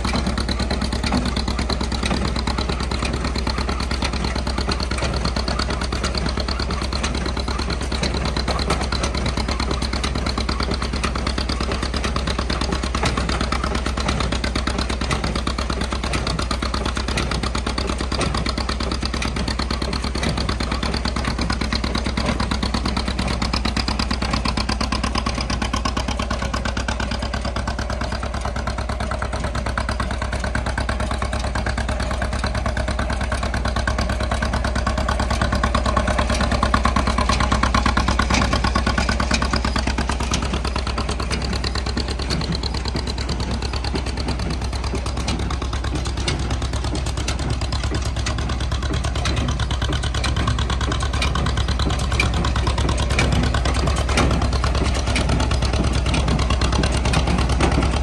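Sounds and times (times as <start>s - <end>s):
baler clattering: 0.0s - 58.0s
tractor engine running under load: 0.0s - 58.0s.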